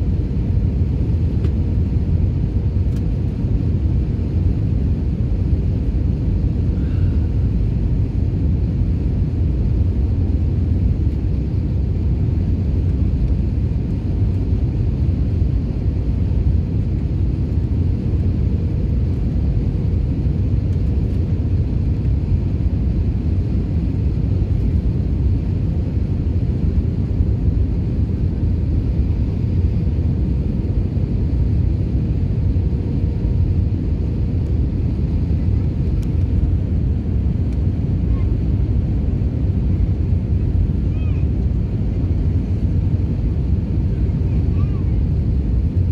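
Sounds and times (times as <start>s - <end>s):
faint steady hum: 0.0s - 45.9s
jet engine and airflow rumble: 0.0s - 45.9s.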